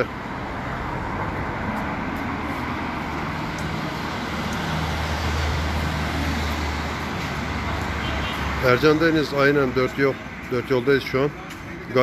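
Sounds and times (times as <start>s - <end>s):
road vehicles running: 0.0s - 12.0s.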